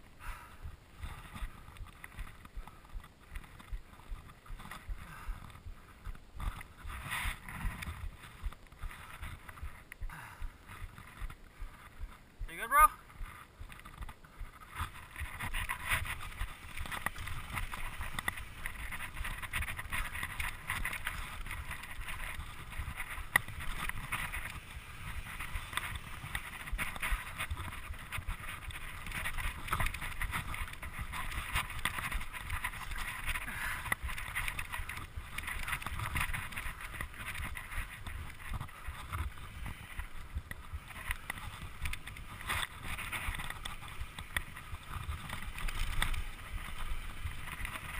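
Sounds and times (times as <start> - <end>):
bike knocking and rattling: 0.2 - 47.9.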